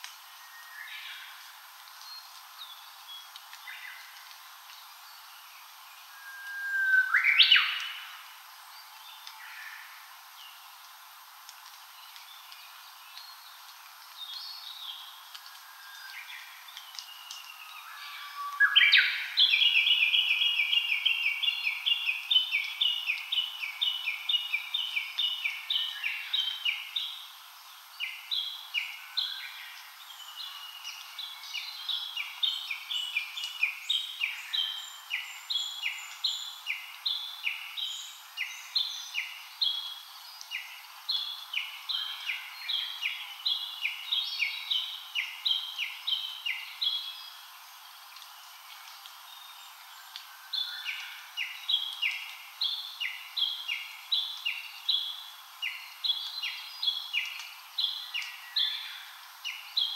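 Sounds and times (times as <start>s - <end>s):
faint forest hiss: 0.0s - 59.9s
songbird singing: 0.2s - 11.0s, 11.6s - 59.9s.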